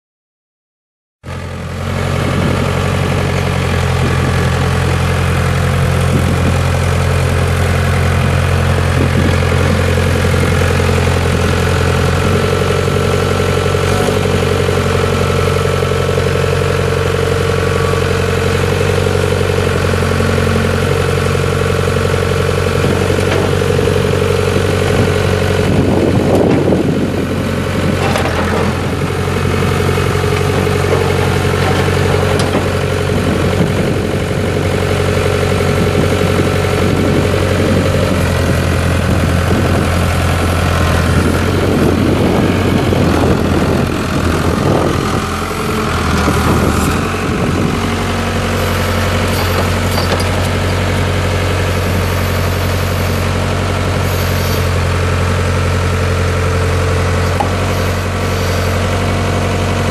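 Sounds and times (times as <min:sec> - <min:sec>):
diesel engine running at low revs: 0:01.2 - 0:59.9.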